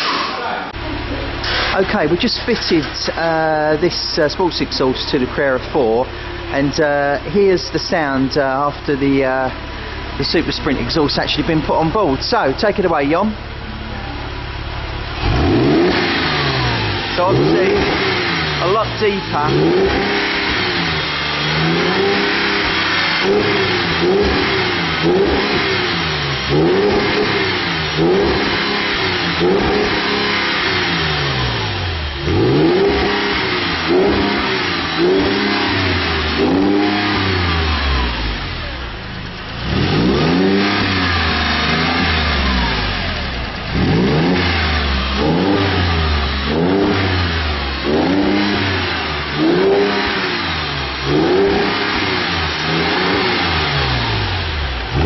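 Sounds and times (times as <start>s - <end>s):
sports car engine revving: 0.0s - 55.0s.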